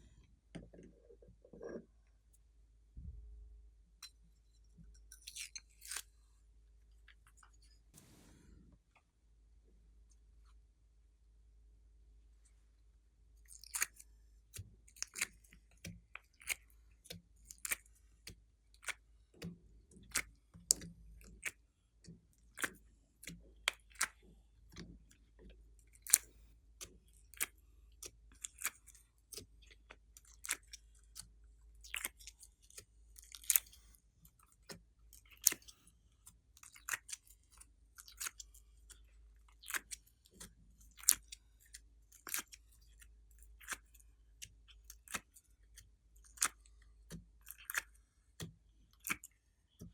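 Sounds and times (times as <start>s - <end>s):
slime squishing with wet clicks: 3.9s - 8.3s, 13.3s - 49.9s.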